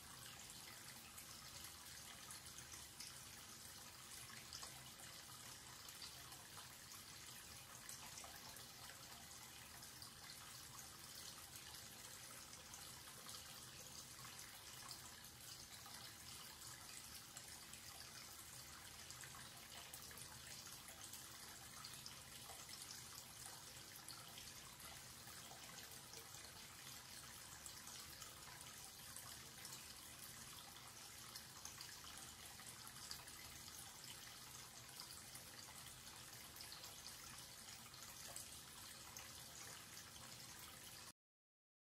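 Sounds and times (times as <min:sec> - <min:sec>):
tap water pouring into basin: 0:00.0 - 0:41.1.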